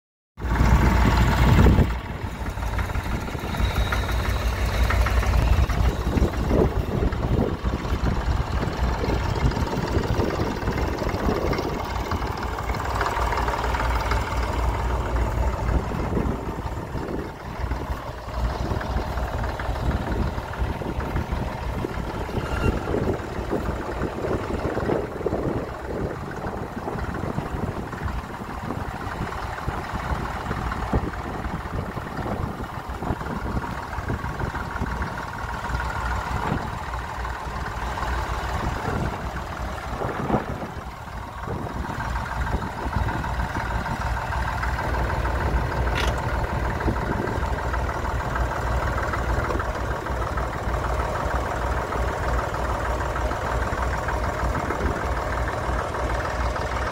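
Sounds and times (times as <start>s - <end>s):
tractor engine idling: 0.4s - 56.9s.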